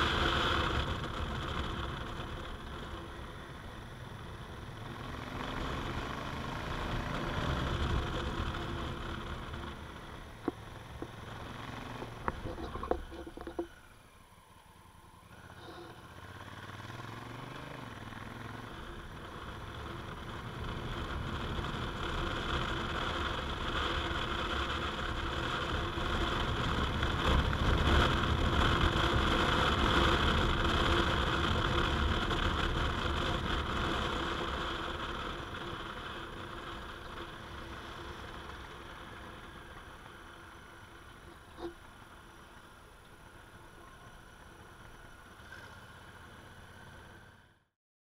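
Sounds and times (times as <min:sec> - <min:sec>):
motorcycle engine: 0:00.0 - 0:47.7
wind and road noise: 0:00.0 - 0:47.8.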